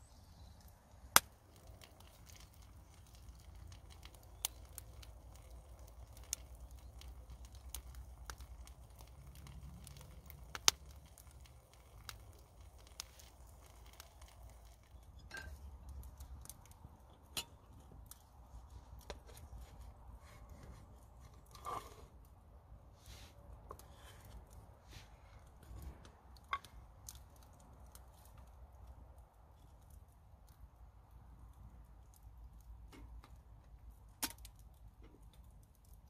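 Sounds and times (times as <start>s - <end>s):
wood fire crackling: 0.0s - 36.0s
fire popping and snapping: 0.1s - 36.0s.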